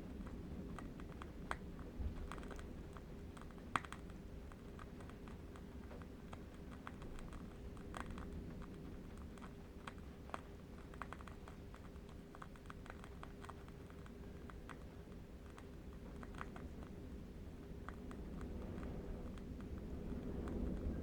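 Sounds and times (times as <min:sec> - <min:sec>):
faint clicks and crackles: 0:00.0 - 0:21.0
steady low rumble: 0:00.0 - 0:21.0.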